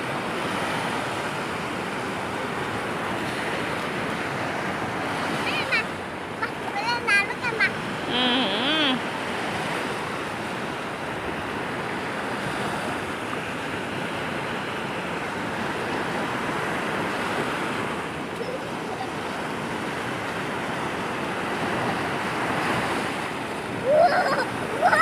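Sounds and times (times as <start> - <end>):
sea surf washing on shore: 0.0 - 25.0.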